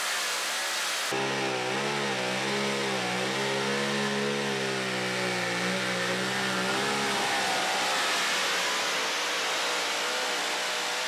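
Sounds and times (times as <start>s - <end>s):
truck engine running hard: 1.2s - 10.6s.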